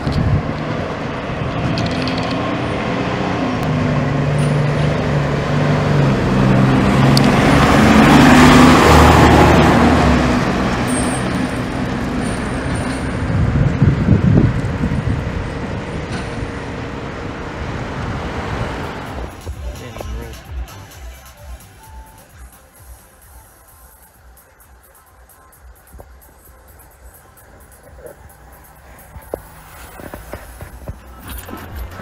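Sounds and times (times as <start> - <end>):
fire engine driving past: 0.0 - 32.0.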